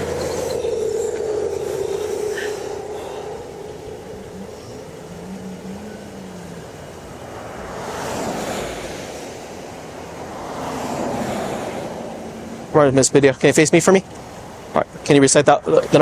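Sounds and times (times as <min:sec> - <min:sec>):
highway traffic rushing past: 0:00.0 - 0:16.0.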